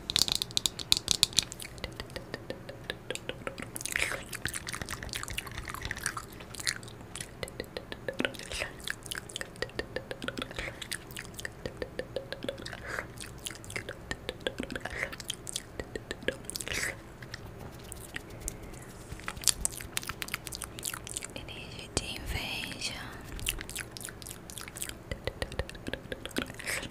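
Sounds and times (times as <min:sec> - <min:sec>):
wet mouth smacking and chewing: 0:00.0 - 0:21.4, 0:23.3 - 0:26.9.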